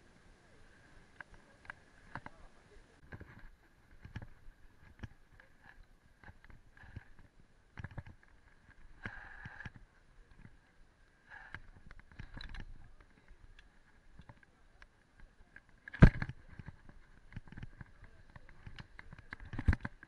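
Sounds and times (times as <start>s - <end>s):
bike parts clicking and rattling: 3.1s - 10.7s, 11.3s - 20.0s.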